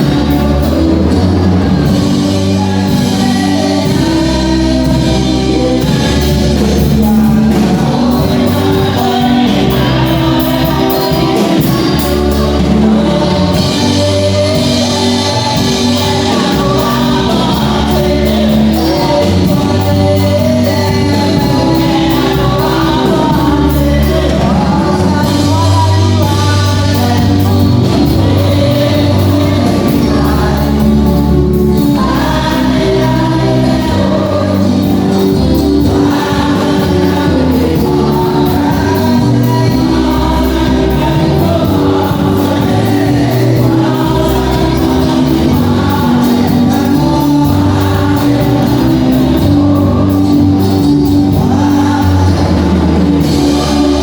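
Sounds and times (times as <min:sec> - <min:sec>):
band with strong bass: 0:00.0 - 0:54.0
gospel choir singing: 0:00.0 - 0:54.0.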